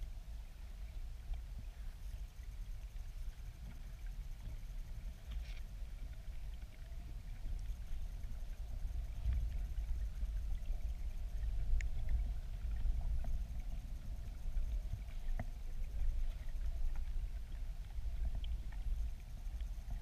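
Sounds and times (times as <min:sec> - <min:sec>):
faint clicks and ticks: 0:00.0 - 0:20.0
underwater river current rumble: 0:00.0 - 0:20.0.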